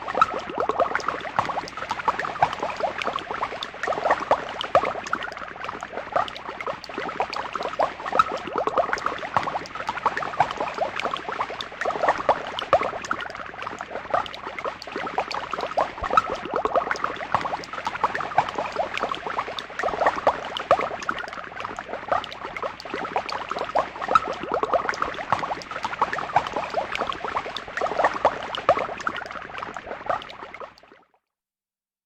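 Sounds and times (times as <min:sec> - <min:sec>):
thick liquid bubbling and popping: 0:00.0 - 0:31.2.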